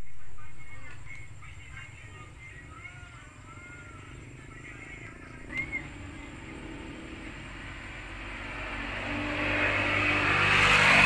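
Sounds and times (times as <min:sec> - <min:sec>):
vehicle approaching on road: 0:00.6 - 0:11.0.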